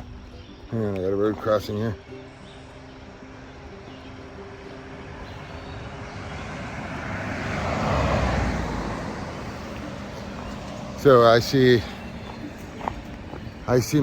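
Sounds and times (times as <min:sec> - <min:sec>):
vehicle passing on road: 0:01.0 - 0:14.0.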